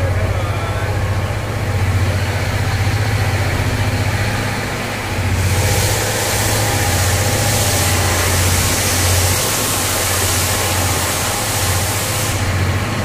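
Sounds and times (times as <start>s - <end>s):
train coach low hum with hiss: 0.0s - 13.0s.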